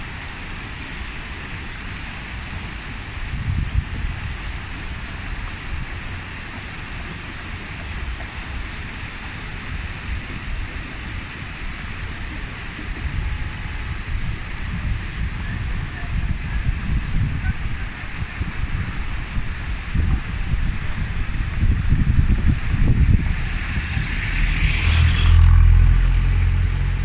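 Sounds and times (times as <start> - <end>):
rushing water: 0.0 - 27.0
wind buffeting microphone: 2.4 - 27.0.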